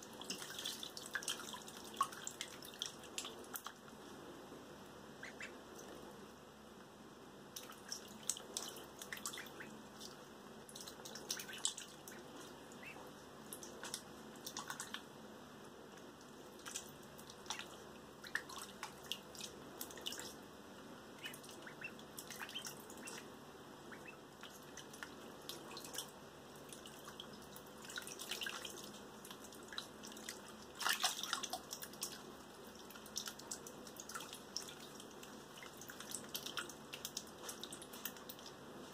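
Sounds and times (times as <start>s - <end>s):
ducklings splashing in water: 0.0s - 3.9s, 5.2s - 6.1s, 7.5s - 15.1s, 16.0s - 38.9s.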